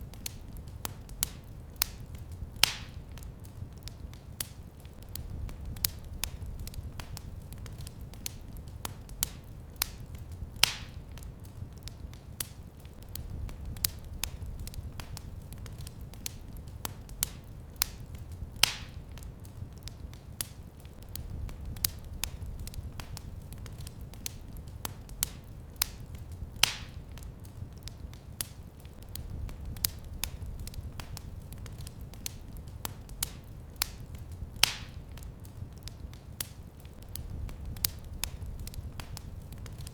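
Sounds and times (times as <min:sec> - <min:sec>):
low rumble of flames: 0:00.0 - 0:39.9
wood fire crackling: 0:00.0 - 0:39.9
loud fire pops: 0:00.1 - 0:39.9.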